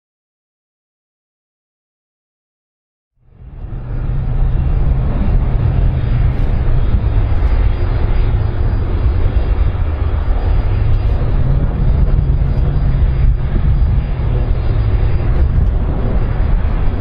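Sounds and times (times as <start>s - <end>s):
jet engines roaring: 3.2s - 17.0s.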